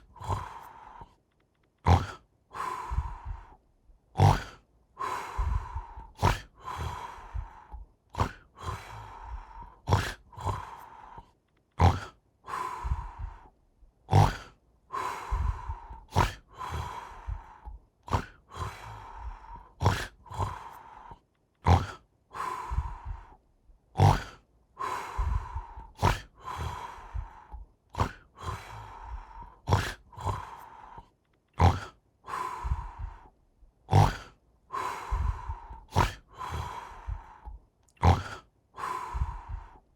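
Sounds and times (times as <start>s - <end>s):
snoring with snorts and rasps: 0.0s - 1.2s, 1.8s - 39.9s.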